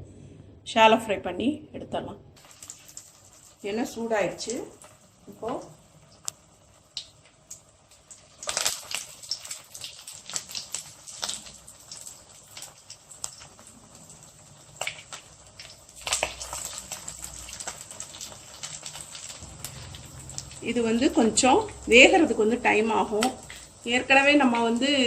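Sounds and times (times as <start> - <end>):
hot oil sizzling and crackling: 2.4 - 25.0.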